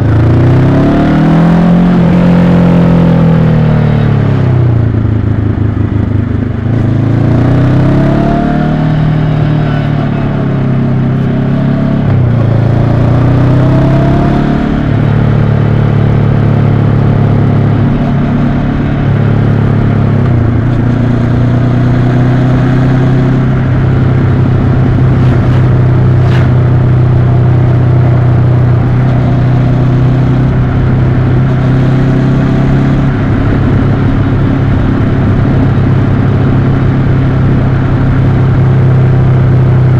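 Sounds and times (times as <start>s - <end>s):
motorcycle engine revving: 0.0s - 39.9s
rushing wind noise: 0.0s - 39.9s.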